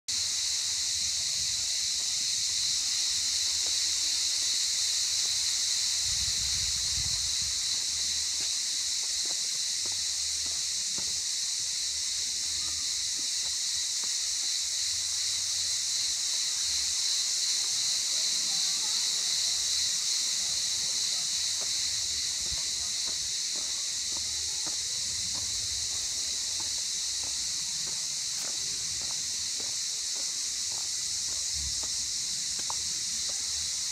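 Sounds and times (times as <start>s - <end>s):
cicadas droning: 0.1s - 33.9s.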